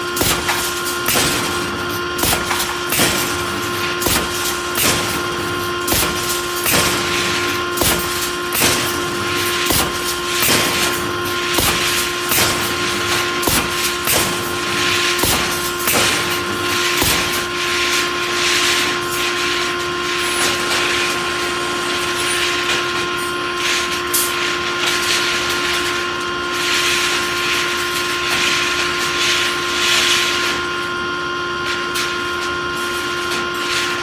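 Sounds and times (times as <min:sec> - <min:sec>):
welding machine whine: 0:00.0 - 0:34.0.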